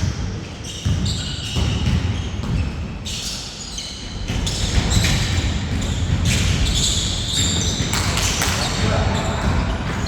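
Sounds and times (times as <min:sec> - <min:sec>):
basketball bouncing on court: 0:00.0 - 0:03.0, 0:04.1 - 0:10.0.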